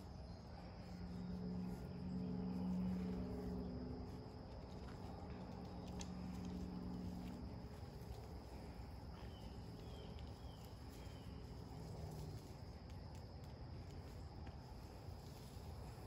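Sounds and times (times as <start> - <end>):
faint low hum: 0.0 - 16.0
insects droning: 0.0 - 16.0.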